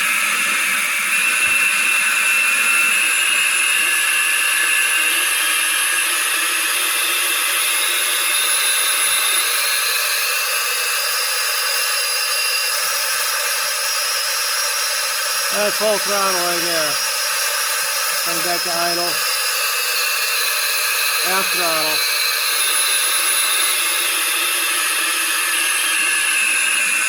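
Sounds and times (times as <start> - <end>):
model jet engine whine with hiss: 0.0 - 21.2, 21.8 - 27.0.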